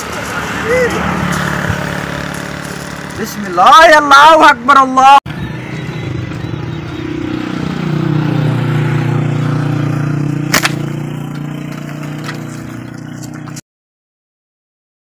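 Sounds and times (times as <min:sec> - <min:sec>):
vehicle engine passing: 0:00.0 - 0:04.7, 0:05.3 - 0:13.6.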